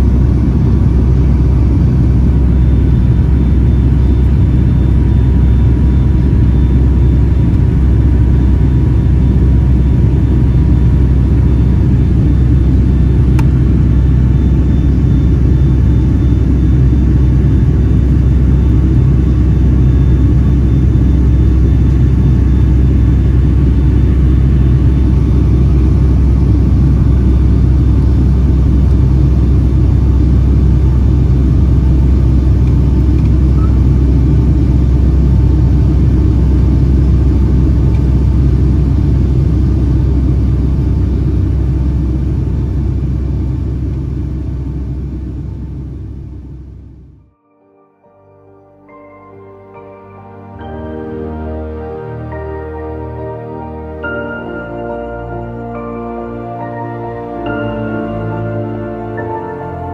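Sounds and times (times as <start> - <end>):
airplane cabin rumble: 0.0 - 47.3, 49.7 - 59.9.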